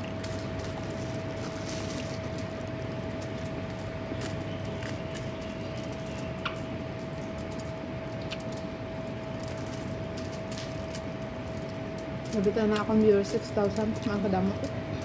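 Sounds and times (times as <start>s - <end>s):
background hum with thin tone: 0.0s - 15.0s.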